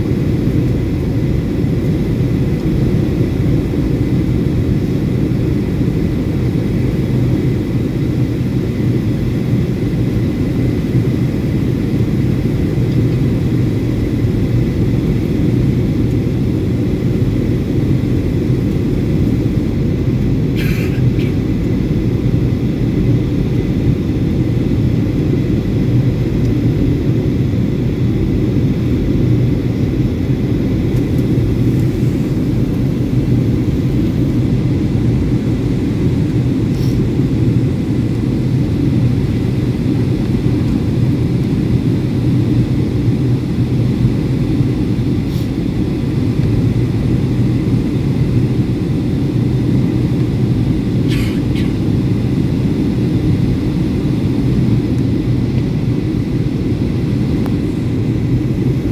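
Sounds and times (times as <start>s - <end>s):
airplane cabin roar: 0.0s - 58.9s.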